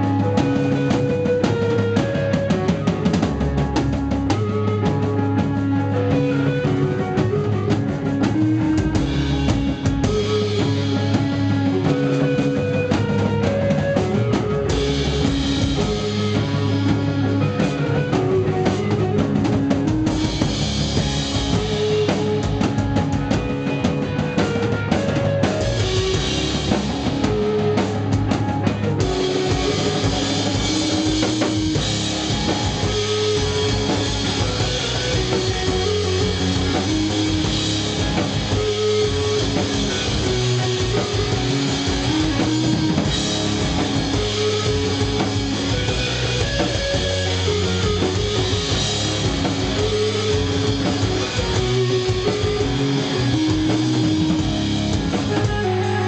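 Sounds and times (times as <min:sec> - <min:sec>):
bass notes: 0:00.0 - 0:56.0
driving drum kit: 0:00.0 - 0:56.0
electric guitar: 0:00.0 - 0:56.0.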